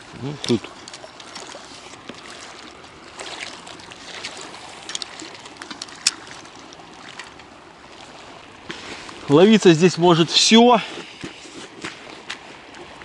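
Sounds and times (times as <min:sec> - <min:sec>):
small waves lapping on concrete: 0:00.0 - 0:13.0.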